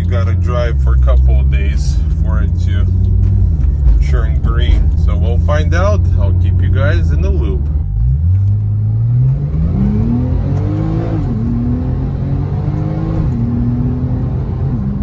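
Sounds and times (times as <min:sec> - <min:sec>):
sports car engine accelerating: 0:00.0 - 0:15.0.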